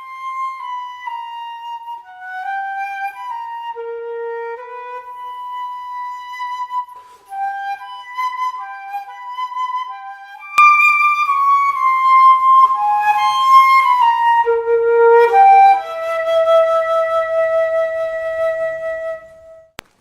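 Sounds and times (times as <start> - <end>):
slow wind instrument melody: 0.0 - 19.7.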